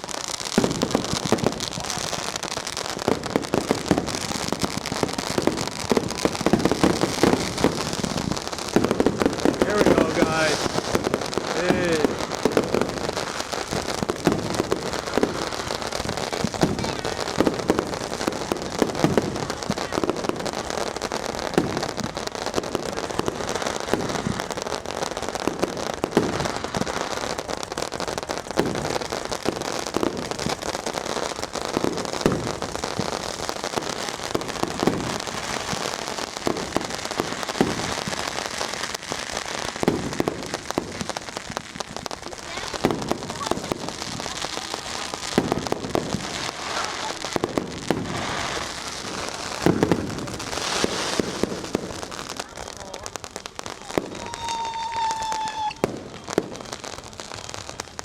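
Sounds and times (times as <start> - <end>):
fireworks crackling and popping: 0.0 - 58.0
loud firework bangs: 0.0 - 58.0.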